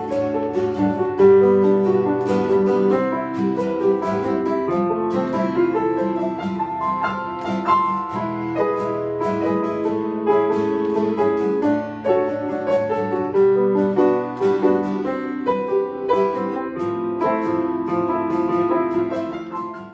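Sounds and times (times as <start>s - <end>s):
acoustic guitar strummed: 0.0s - 19.9s
piano playing: 0.0s - 19.9s.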